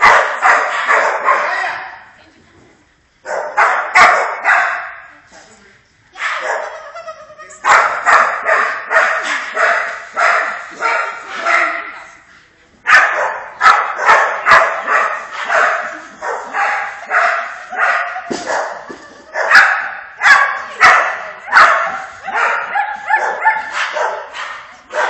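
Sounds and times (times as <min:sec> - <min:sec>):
dog barking: 0:00.0 - 0:02.0, 0:03.2 - 0:05.1, 0:06.2 - 0:06.8, 0:07.6 - 0:12.2, 0:12.9 - 0:25.0.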